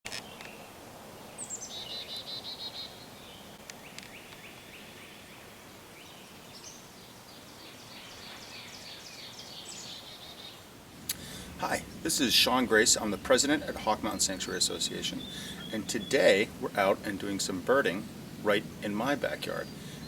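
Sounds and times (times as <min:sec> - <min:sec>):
songbirds singing: 0:00.1 - 0:20.0
steady outdoor hiss: 0:00.1 - 0:20.0.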